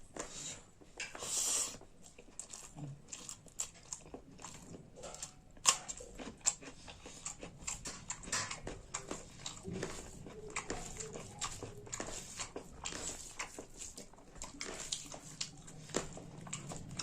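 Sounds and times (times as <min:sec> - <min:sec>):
close-up chewing food: 0:00.0 - 0:17.0.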